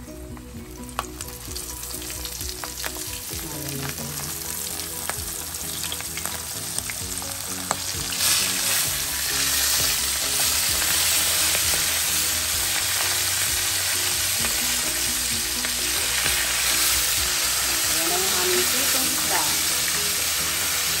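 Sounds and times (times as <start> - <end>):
fish deep-frying in oil: 0.7 - 21.0.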